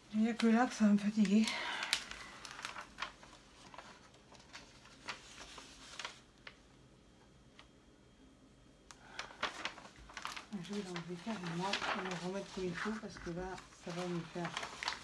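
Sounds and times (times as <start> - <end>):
release paper crackling: 0.2 - 6.7, 8.9 - 15.0.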